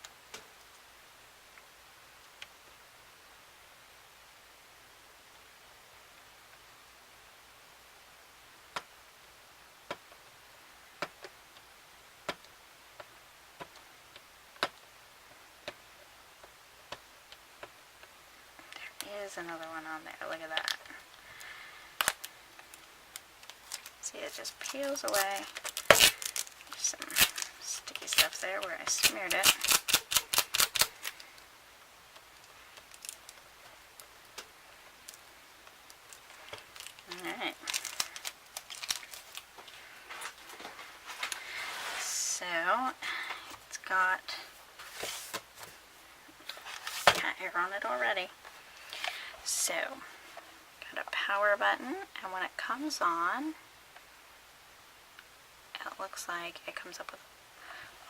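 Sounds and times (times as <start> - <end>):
low steady hiss: 0.0 - 58.0.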